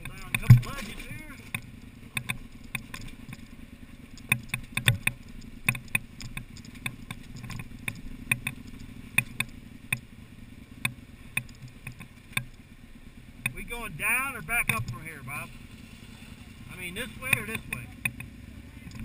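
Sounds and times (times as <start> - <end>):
knocks and clatter over rock: 0.0 - 10.1, 10.8 - 12.6, 13.4 - 15.7, 16.7 - 19.0
motorcycle engine at low revs: 0.0 - 19.0.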